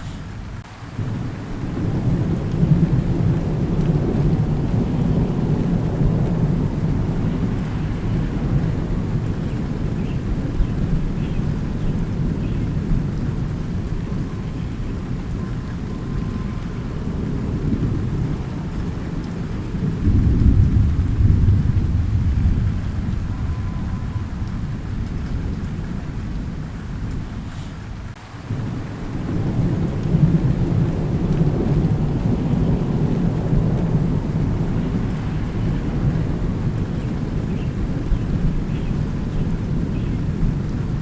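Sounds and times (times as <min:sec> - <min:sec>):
steady rain: 0:00.0 - 0:41.0
rolling thunder: 0:00.4 - 0:41.0.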